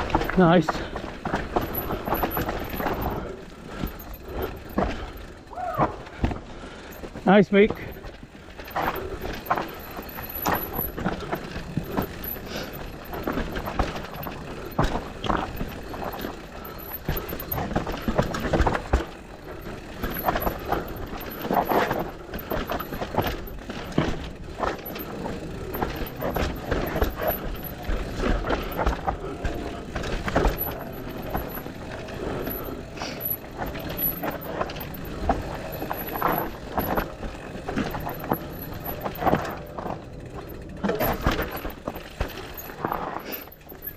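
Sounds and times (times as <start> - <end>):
bike frame and chain clattering: 0.0 - 43.9
bike tyres on dirt: 0.0 - 43.9.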